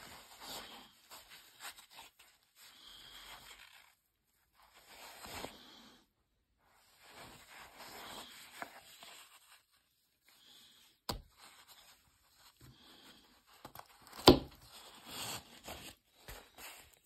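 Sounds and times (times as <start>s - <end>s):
gloves rustling on cloth: 0.0s - 17.0s.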